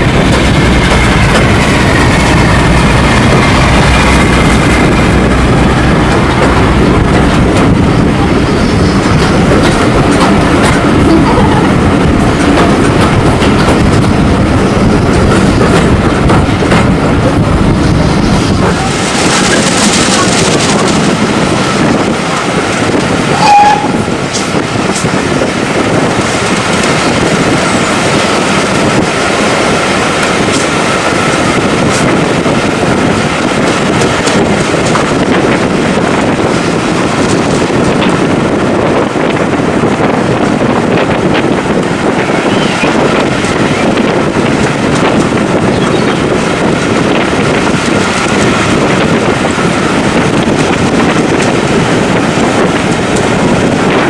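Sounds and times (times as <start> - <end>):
train carriages rumbling on track: 0.0 - 54.0.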